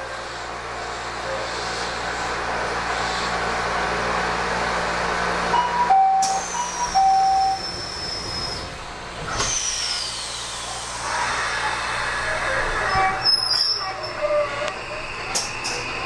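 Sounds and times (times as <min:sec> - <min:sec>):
train car rumble: 0:00.0 - 0:16.0.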